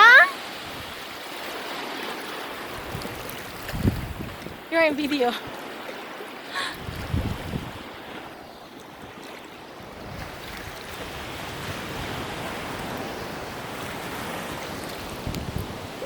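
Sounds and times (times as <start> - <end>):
ocean surf washing onto beach: 0.0 - 16.0
wind buffeting microphone: 0.5 - 1.8, 2.5 - 5.8, 6.6 - 16.0.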